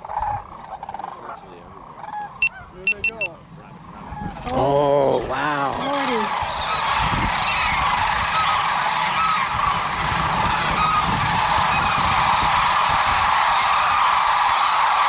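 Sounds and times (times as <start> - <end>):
cranes calling: 0.0 - 15.0.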